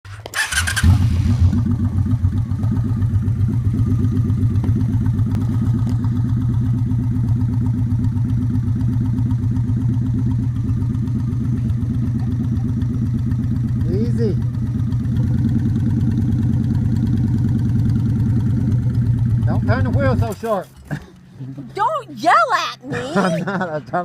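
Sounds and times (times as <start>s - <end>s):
motorcycle engine idling: 0.1s - 21.0s.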